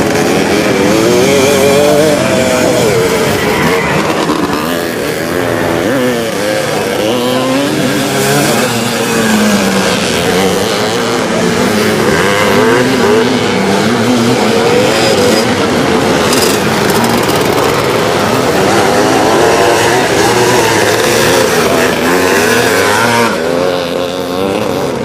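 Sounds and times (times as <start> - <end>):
motocross motorcycles revving: 0.0 - 25.0.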